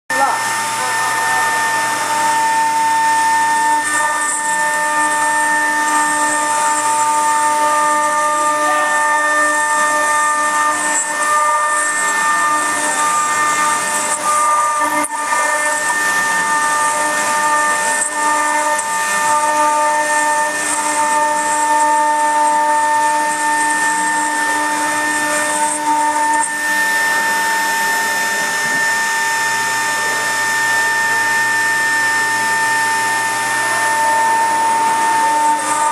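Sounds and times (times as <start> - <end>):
router spindle whining: 0.1 - 35.9.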